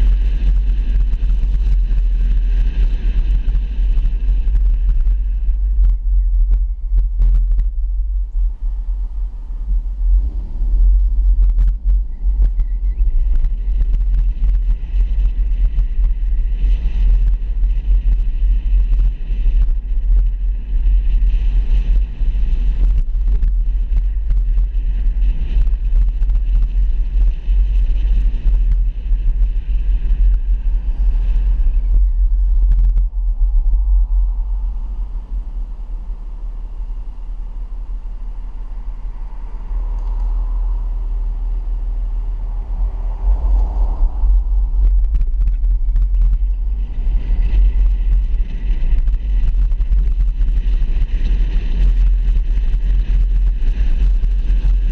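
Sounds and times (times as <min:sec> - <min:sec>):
vehicle road and wind noise: 0:00.0 - 0:54.9.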